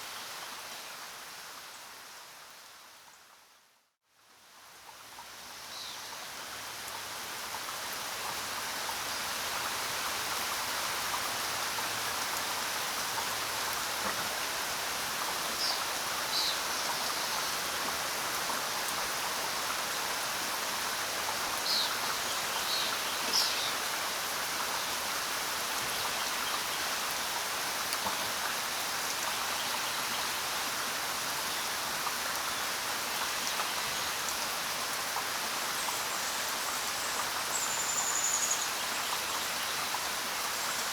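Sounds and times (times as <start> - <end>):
rain falling: 4.3 - 40.9.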